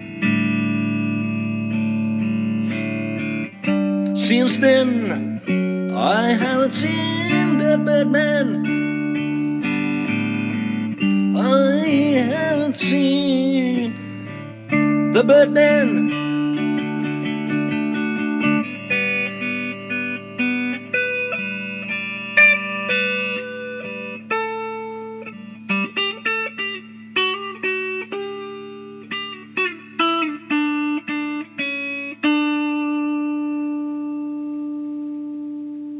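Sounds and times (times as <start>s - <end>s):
solo guitar melody: 0.0s - 35.9s.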